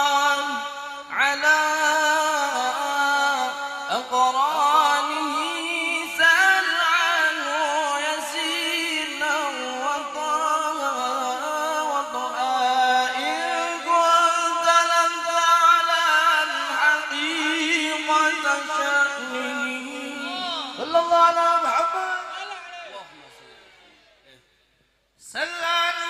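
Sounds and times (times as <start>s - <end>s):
man chanting into a microphone: 0.0s - 24.4s, 25.2s - 26.0s.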